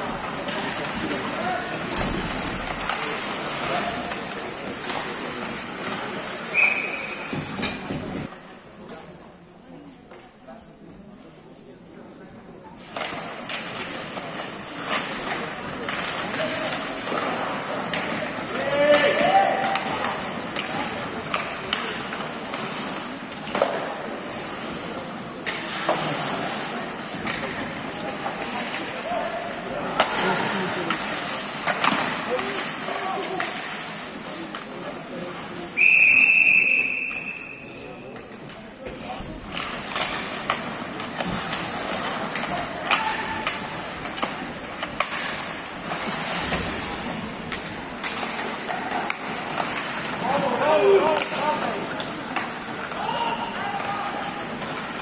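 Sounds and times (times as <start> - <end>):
skates scraping on ice: 0.0 - 8.4, 12.8 - 35.8, 36.6 - 55.0
hockey sticks and puck clacking: 0.0 - 9.0, 12.8 - 55.0.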